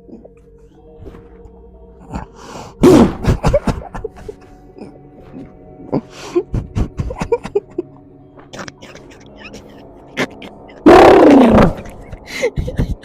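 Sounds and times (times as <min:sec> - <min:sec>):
background music drone: 0:00.0 - 0:13.0.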